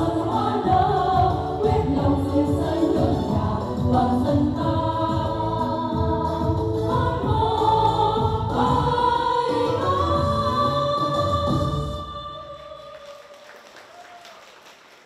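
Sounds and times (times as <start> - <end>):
women singing together: 0.0 - 13.1.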